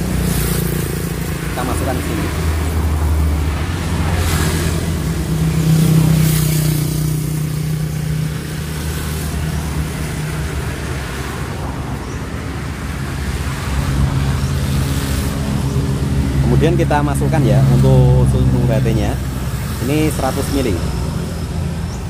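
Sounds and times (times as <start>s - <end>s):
roadside traffic: 0.0s - 22.0s
vehicle engine droning: 0.0s - 22.0s.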